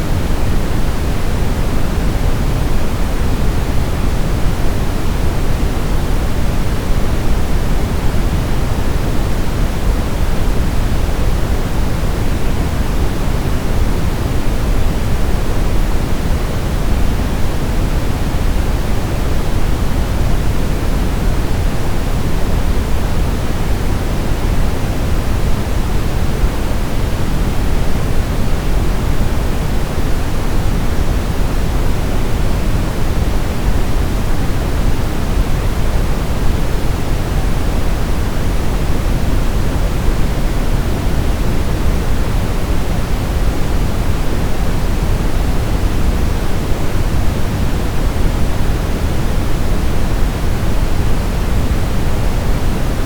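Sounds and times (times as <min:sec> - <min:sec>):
brown noise rushing hiss: 0:00.0 - 0:53.0.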